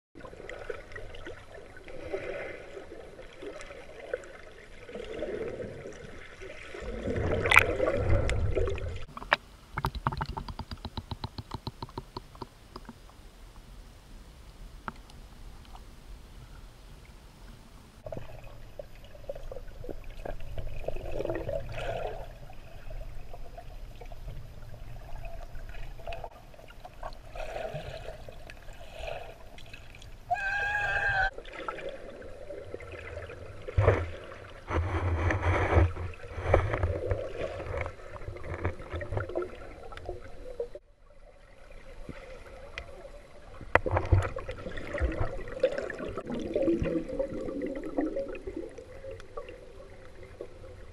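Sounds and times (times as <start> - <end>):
water gurgling and sloshing underwater: 0.2 - 50.9.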